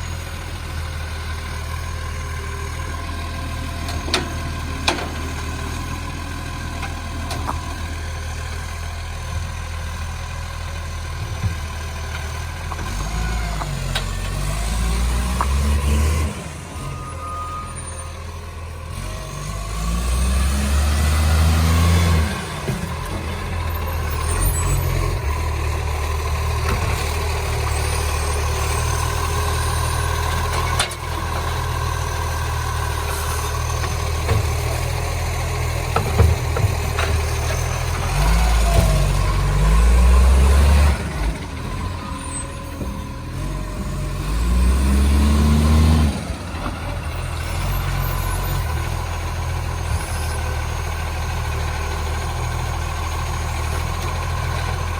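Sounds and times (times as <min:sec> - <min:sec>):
garbage truck diesel engine revving: 0:00.0 - 0:54.9.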